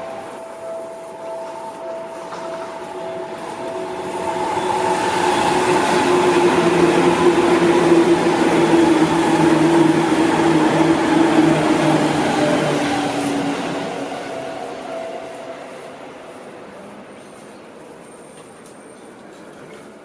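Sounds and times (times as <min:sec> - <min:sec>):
humming tone: 0:00.0 - 0:16.6
rushing wheel noise: 0:00.0 - 0:17.4
electric train passing: 0:00.0 - 0:20.0.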